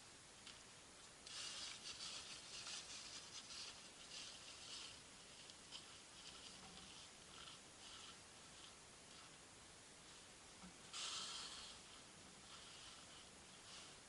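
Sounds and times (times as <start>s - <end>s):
small birds pecking seeds: 0.0s - 14.0s.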